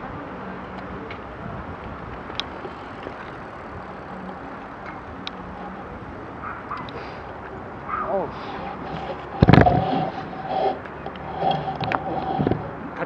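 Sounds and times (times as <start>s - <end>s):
bicycle rolling on pavement: 0.0s - 13.0s
wind: 0.0s - 13.0s
faint clicks: 1.8s - 12.7s.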